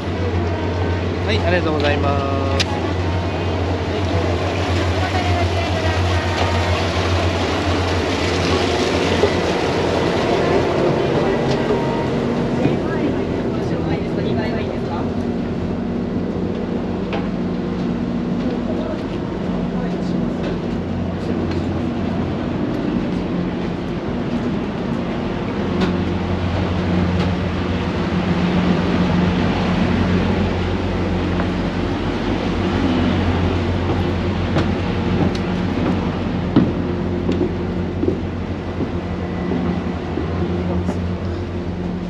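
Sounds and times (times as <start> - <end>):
boat engines humming: 0.0 - 42.0.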